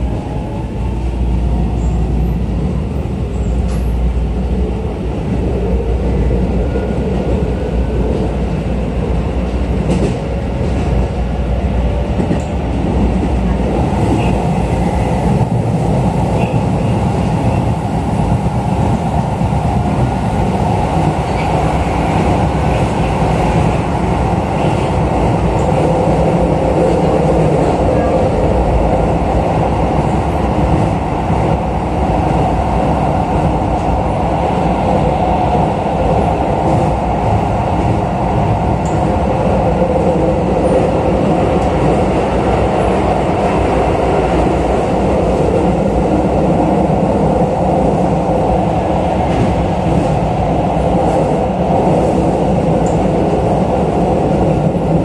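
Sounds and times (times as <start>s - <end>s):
train interior running rumble: 0.0s - 55.0s.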